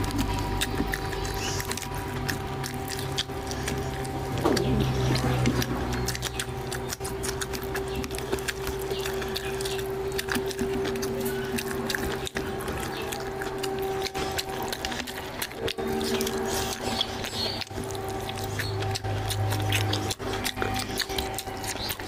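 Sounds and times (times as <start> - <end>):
steady hum: 0.0 - 22.0
sticky squelching of meat: 0.0 - 22.0
wet chewing smacks: 0.0 - 22.0.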